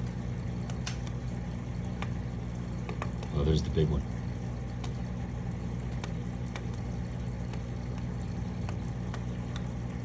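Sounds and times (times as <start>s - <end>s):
aquarium filter hum: 0.0s - 10.0s
fish clicking while eating: 0.3s - 3.3s, 4.3s - 10.0s.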